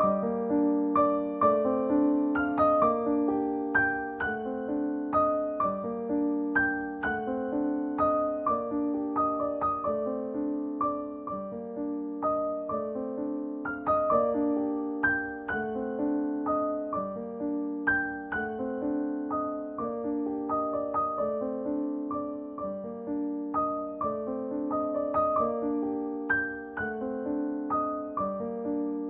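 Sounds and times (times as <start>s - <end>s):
gentle piano piece: 0.0s - 29.0s.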